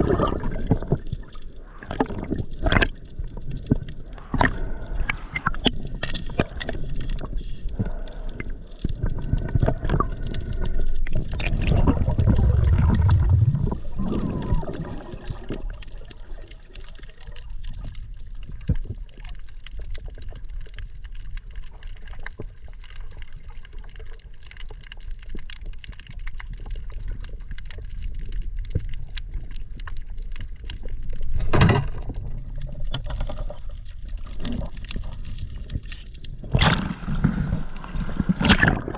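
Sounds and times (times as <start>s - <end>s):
water gurgling and sloshing: 0.0s - 38.9s.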